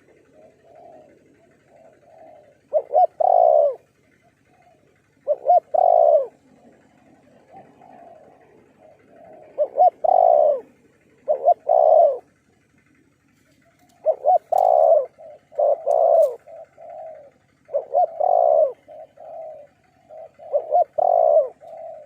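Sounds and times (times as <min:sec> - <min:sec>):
doves cooing: 0:00.0 - 0:22.0.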